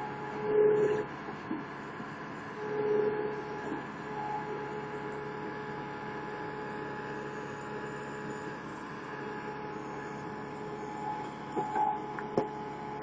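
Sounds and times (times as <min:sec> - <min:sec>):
hydraulic whine: 0:00.0 - 0:13.0
loader engine and hydraulics hum: 0:00.0 - 0:13.0.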